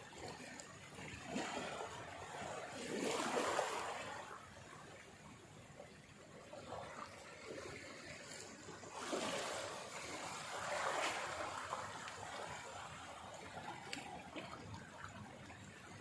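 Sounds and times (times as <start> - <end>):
sea waves washing ashore: 0.0 - 4.8, 6.5 - 16.0.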